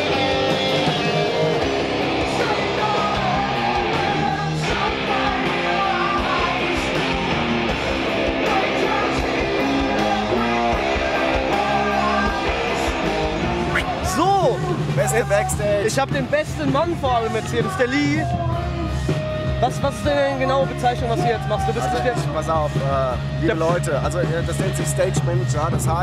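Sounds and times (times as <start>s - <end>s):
bass guitar: 0.0s - 26.0s
drums: 0.0s - 26.0s
electric guitars: 0.0s - 26.0s.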